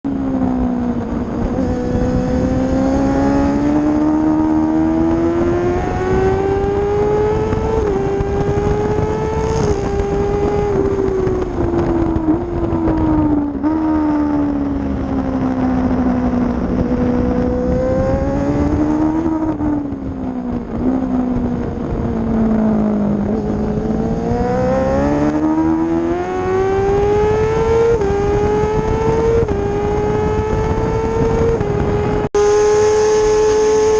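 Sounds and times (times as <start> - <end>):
motorcycle engine revving through gears: 0.1 - 33.9
wind rushing over microphone: 0.1 - 33.9.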